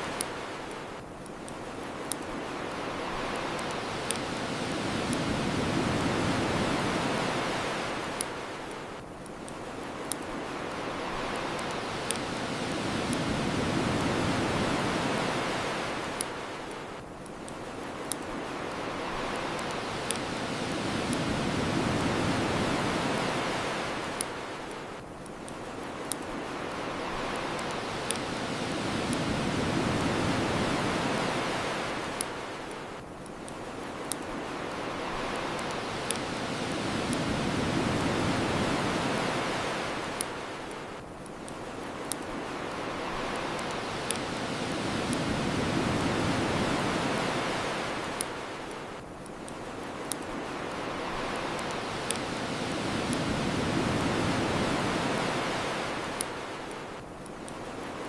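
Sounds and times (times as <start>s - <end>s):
bonfire crackling: 0.0s - 58.0s
ocean waves washing ashore: 0.0s - 58.0s.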